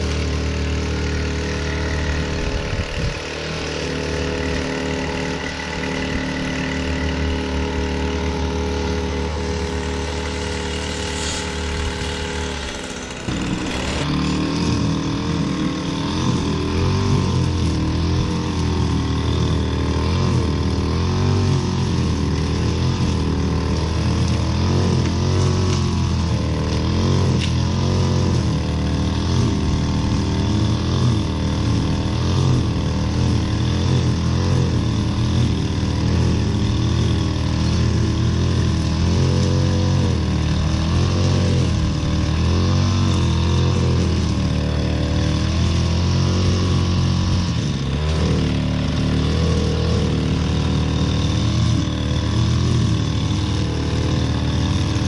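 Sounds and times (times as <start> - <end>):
string trimmer cutting grass: 0.0 - 55.0.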